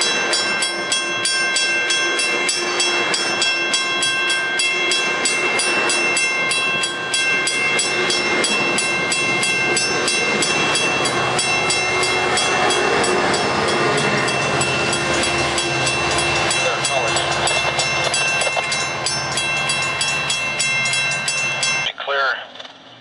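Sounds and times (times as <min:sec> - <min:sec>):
train wheels clacking over rails: 0:00.0 - 0:21.9
crossing bell ringing rapidly: 0:00.0 - 0:22.0.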